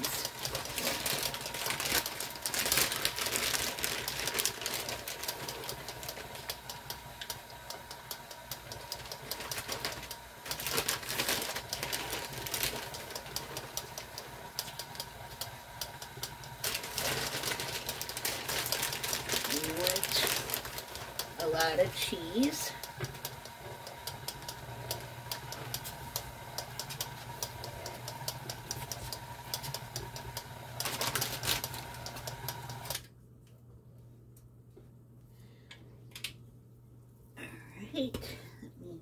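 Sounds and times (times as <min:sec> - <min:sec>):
mixer beater ticking in dough: 0:00.0 - 0:33.0
stand mixer motor hum: 0:00.0 - 0:33.0.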